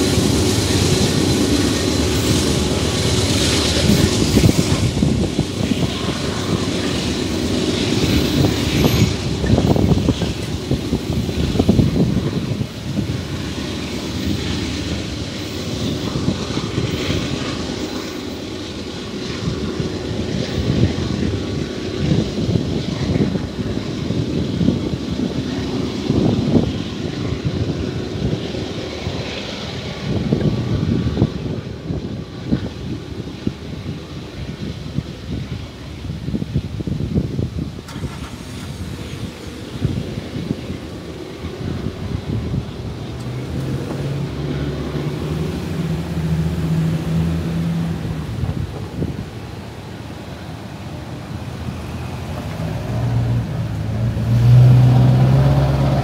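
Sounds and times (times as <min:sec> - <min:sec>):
freight train rumble: 0:00.0 - 0:56.0
wind buffeting microphone: 0:00.0 - 0:56.0.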